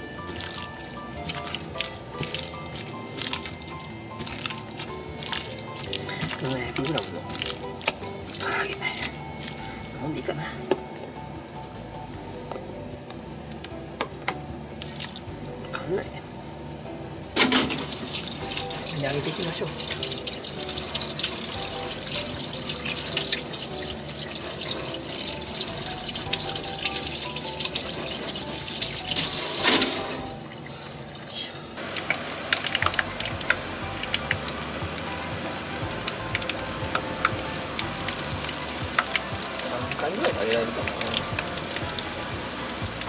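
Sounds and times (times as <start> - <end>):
hot oil crackling: 0.0 - 11.2, 12.1 - 43.0.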